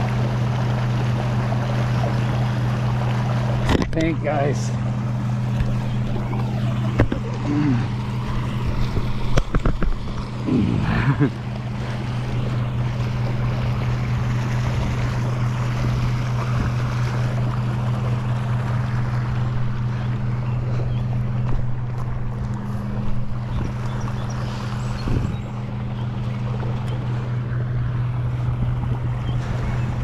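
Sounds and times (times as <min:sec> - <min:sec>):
steady low hum: 0:00.0 - 0:30.0
water rushing from outflow: 0:00.0 - 0:30.0.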